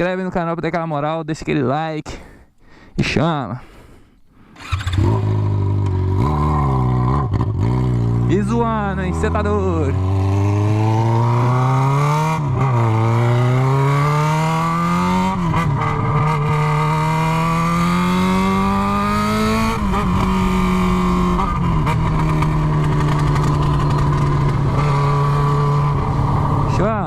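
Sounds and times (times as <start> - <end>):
motorcycle engine accelerating hard: 4.6 - 27.0.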